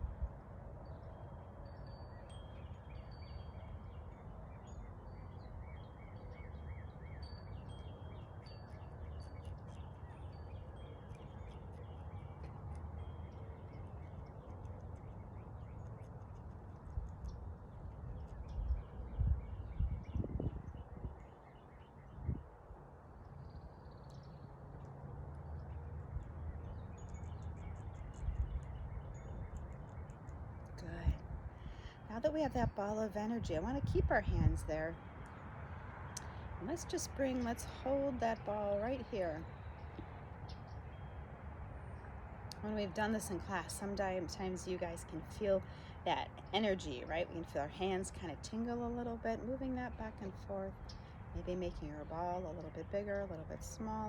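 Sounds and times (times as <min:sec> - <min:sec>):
birds chirping and trilling: 0:00.0 - 0:54.0
low background rumble: 0:00.0 - 0:54.0.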